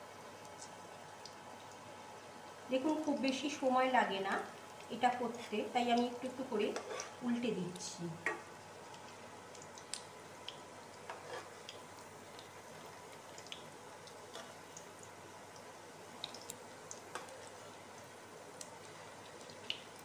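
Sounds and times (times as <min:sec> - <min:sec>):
fritters sizzling in oil: 0:00.0 - 0:20.0.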